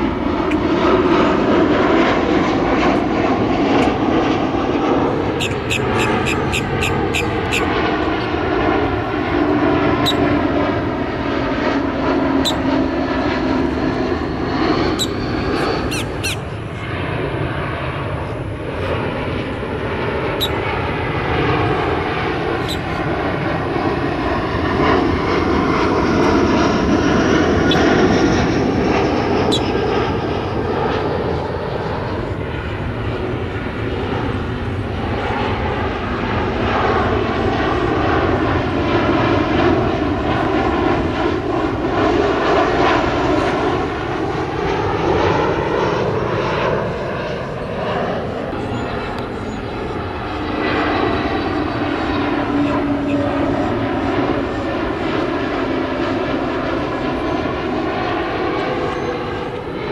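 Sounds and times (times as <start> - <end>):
airliner engine rushing: 0.0 - 59.9.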